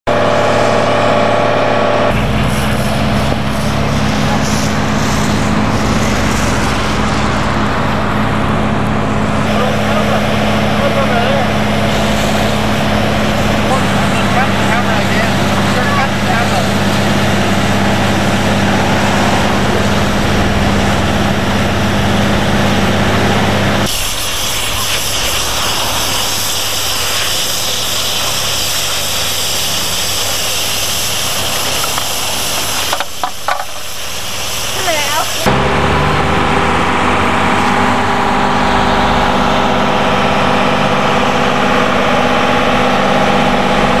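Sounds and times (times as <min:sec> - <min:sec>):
engine hum: 0:00.0 - 0:44.0
water jets rushing: 0:02.1 - 0:44.0.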